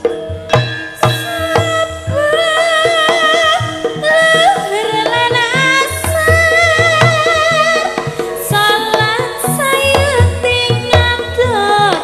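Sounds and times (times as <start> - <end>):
gamelan music: 0.0 - 11.9
hand drum strokes: 0.0 - 12.0
woman singing with vibrato: 0.9 - 12.0.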